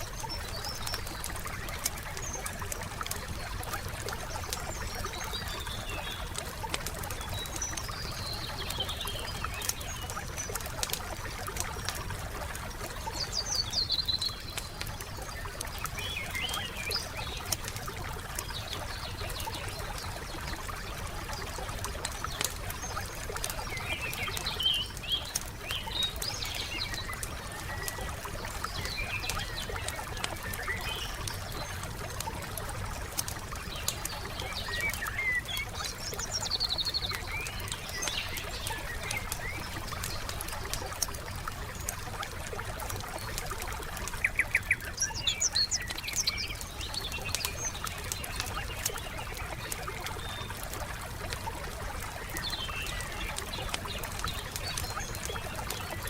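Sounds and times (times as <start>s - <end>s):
campfire crackling: 0.0s - 56.0s
songbirds chirping: 0.0s - 56.0s
water trickling: 0.0s - 56.0s.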